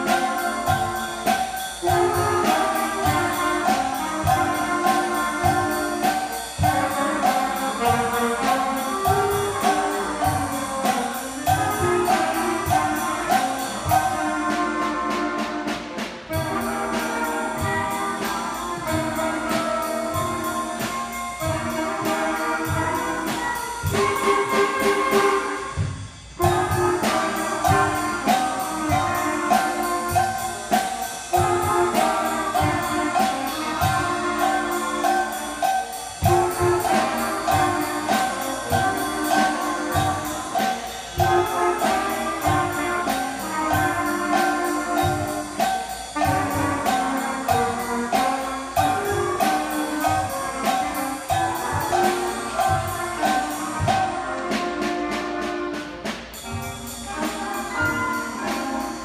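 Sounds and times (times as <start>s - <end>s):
band playing a tune: 0.0s - 59.0s
drum kit beat: 0.0s - 59.0s.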